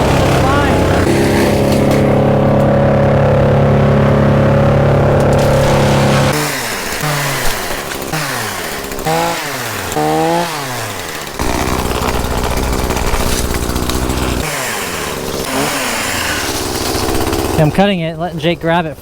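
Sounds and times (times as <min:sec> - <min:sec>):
chainsaw revving: 0:00.0 - 0:18.1.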